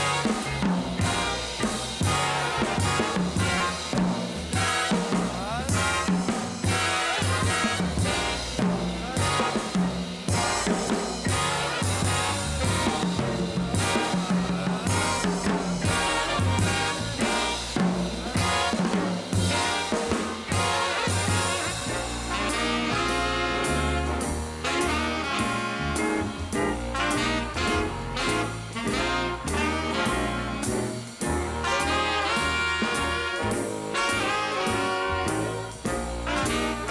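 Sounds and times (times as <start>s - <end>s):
drum kit accents: 0.0s - 36.9s
saxophones: 0.0s - 36.9s
trumpets and trombone: 0.0s - 36.9s.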